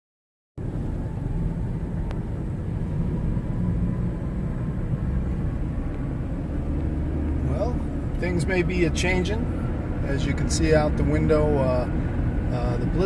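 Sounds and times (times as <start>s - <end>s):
vehicle driving rumble: 0.6s - 13.0s.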